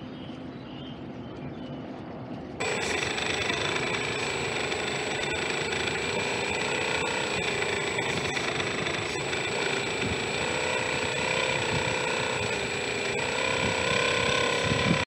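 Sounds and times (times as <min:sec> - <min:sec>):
model boat motor humming: 0:02.6 - 0:15.0.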